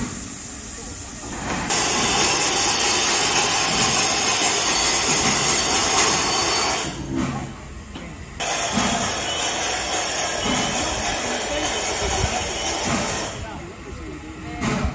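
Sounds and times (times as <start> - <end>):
steam locomotive hissing steam: 0.0 - 14.9.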